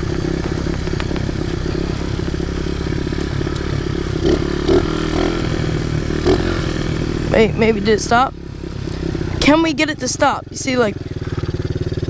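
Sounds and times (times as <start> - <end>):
light rattle from bike: 0.0 - 9.6, 10.6 - 12.0
small motorbike engine running: 0.0 - 12.0.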